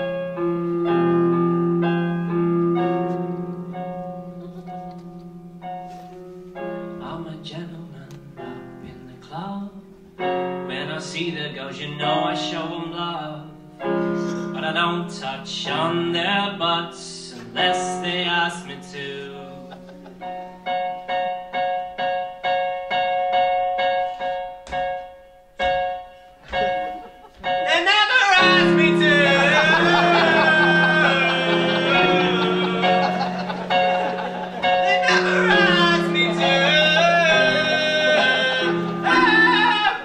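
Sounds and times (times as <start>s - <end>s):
electric keyboard piano chords: 0.0s - 40.0s.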